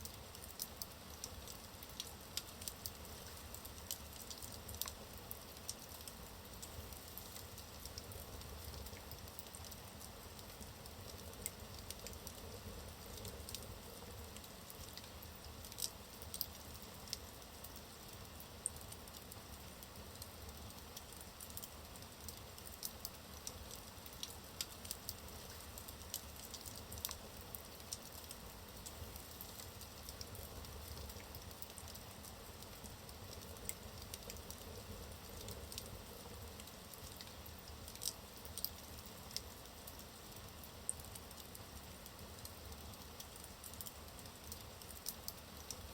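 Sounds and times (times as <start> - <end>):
logs crackling and popping: 0.0 - 45.9.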